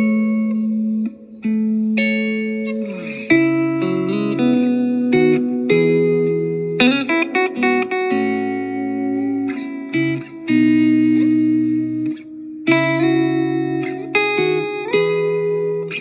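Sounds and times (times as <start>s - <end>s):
electric guitar chords: 0.0s - 16.0s
picked guitar notes: 0.0s - 16.0s.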